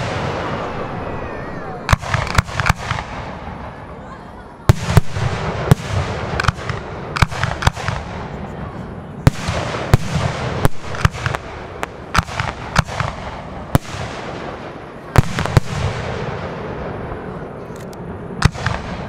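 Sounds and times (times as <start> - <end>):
firework bangs: 0.0 - 4.0, 4.6 - 17.4, 18.2 - 19.0.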